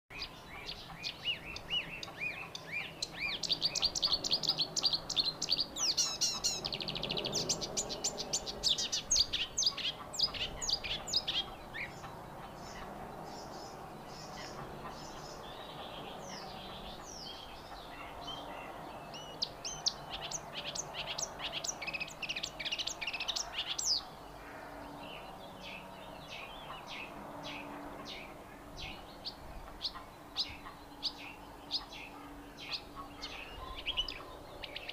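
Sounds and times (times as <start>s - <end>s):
songbirds chirping and trilling: 0.1s - 34.9s.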